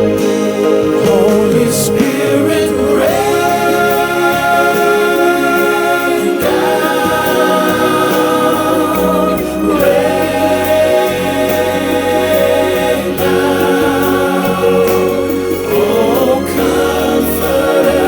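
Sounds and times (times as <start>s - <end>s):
voices singing gospel song: 0.0s - 18.0s.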